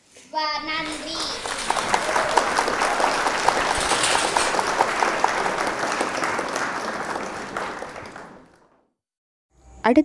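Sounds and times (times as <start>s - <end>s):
crowd applause: 0.7s - 8.8s.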